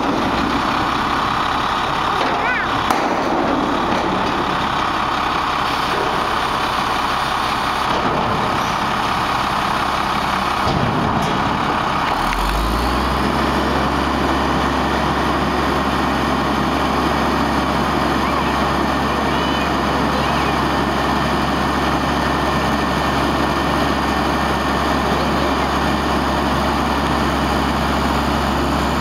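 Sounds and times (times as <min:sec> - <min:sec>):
garbage truck engine and hydraulics: 0:00.0 - 0:29.0.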